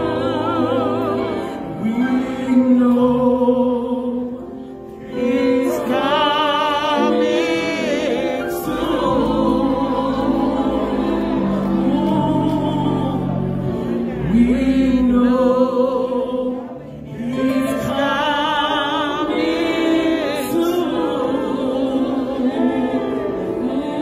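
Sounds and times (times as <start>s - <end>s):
woman singing gospel: 0.0s - 24.0s.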